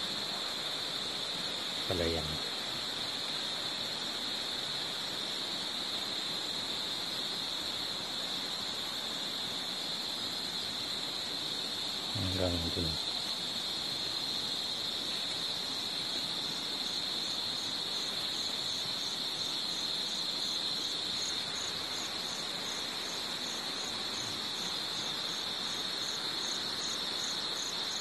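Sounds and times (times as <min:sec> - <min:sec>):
insect chirping: 0:00.0 - 0:28.0
insect high-pitched drone: 0:00.5 - 0:28.0.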